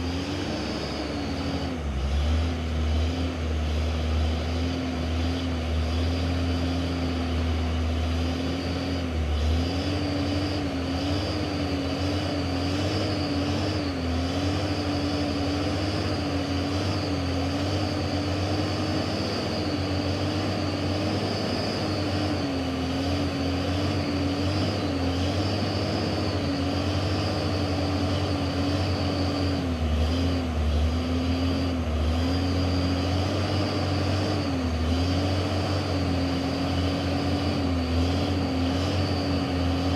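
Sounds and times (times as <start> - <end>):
faint high whine: 0.0 - 39.9
truck diesel engine running: 0.0 - 39.9.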